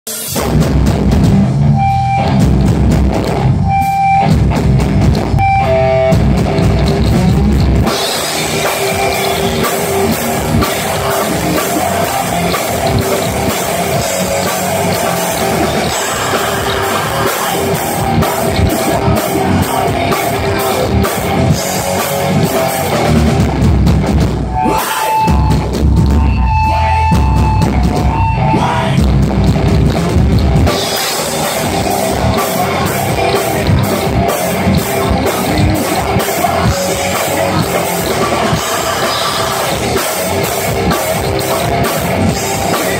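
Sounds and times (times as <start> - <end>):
distorted electric guitars: 0.0 - 42.9
drum kit with cymbals: 0.1 - 42.9.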